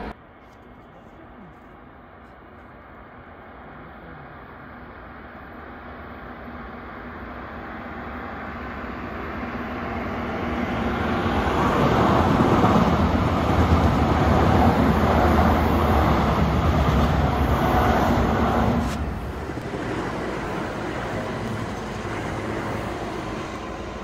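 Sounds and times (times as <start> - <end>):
electric train passing: 0.0 - 0.4, 1.8 - 24.0.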